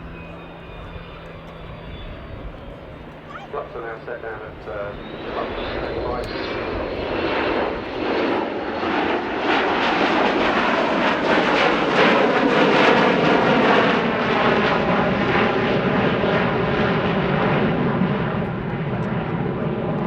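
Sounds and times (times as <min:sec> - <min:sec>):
jet airliner flying past: 0:00.0 - 0:20.0.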